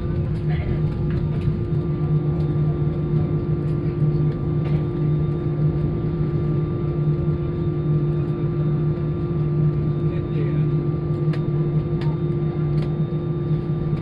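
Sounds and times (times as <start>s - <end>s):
airliner cabin engine hum: 0.0s - 14.0s.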